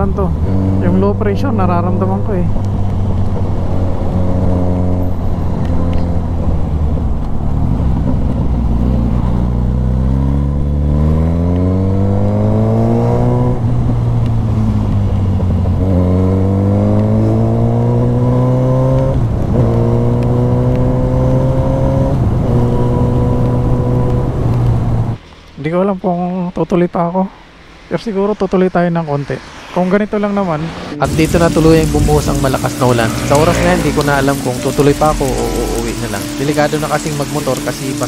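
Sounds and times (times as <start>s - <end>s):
motorcycle engine accelerating: 0.0s - 25.2s, 30.9s - 38.0s.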